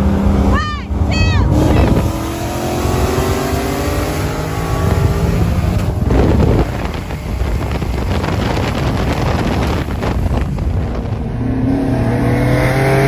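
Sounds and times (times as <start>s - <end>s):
car engine running hard: 0.0s - 13.0s
wind on microphone: 0.0s - 13.0s.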